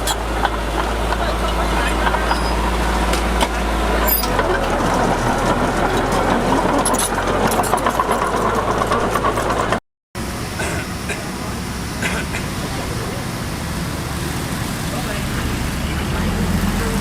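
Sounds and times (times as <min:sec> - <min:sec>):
diesel machinery engine running: 0:00.0 - 0:17.0.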